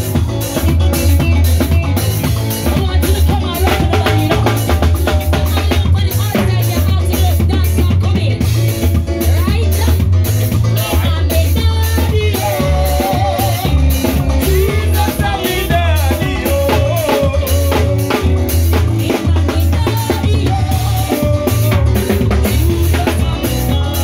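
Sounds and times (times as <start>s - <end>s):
drum kit beat: 0.0s - 24.0s
heavy bass: 0.0s - 24.0s
keyboard melody: 0.0s - 24.0s.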